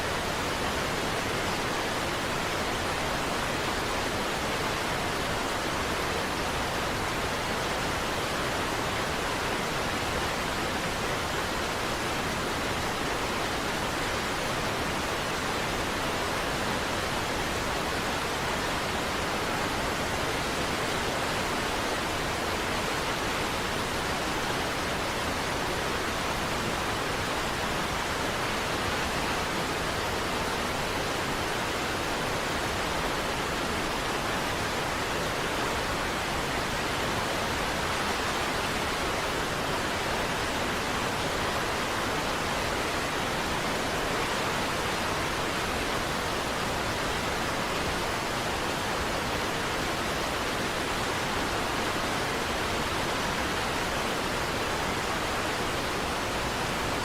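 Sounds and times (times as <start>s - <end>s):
large waterfall rushing: 0.0s - 57.0s.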